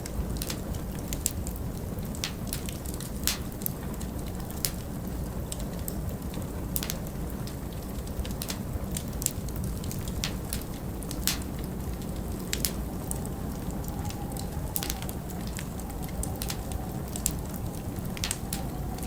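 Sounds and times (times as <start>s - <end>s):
log fire crackling and popping: 0.0s - 19.0s
low rush of wind: 0.0s - 19.0s.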